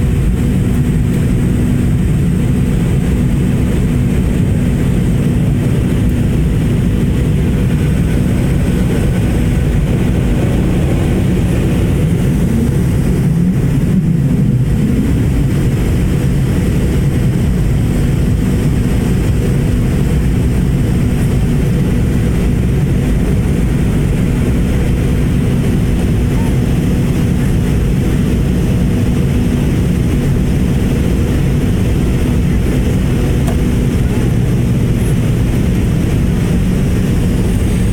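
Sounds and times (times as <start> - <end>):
airliner cabin engine drone: 0.0 - 37.9.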